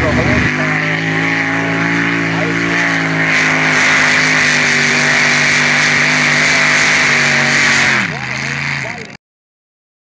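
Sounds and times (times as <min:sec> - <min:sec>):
tractor engine at full throttle: 0:00.0 - 0:09.2.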